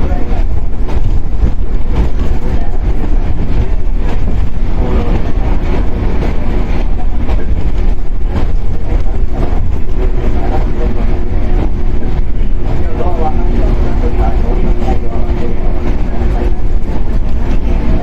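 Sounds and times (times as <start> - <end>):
track knocks: 0.0 - 18.0
train traction motors humming: 0.0 - 18.0
wheels rumbling on rail: 0.0 - 18.0.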